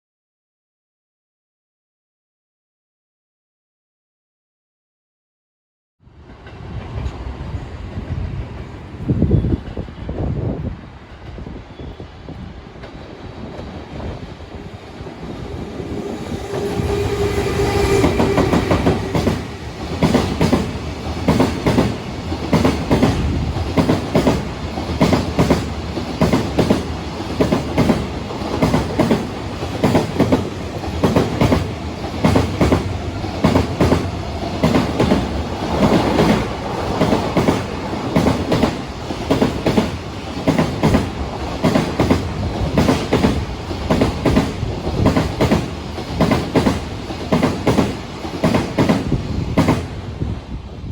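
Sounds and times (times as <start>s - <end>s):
freight train passing: 6.1s - 50.9s.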